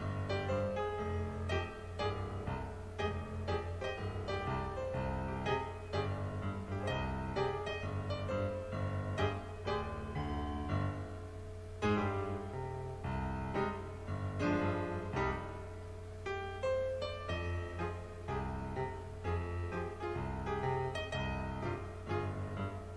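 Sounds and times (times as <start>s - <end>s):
piano music: 0.0s - 22.9s.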